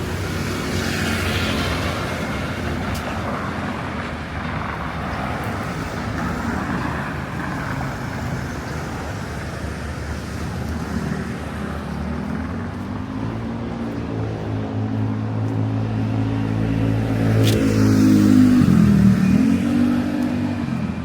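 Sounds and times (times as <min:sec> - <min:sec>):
road noise: 0:00.0 - 0:21.0
vehicle engines running: 0:00.0 - 0:21.0.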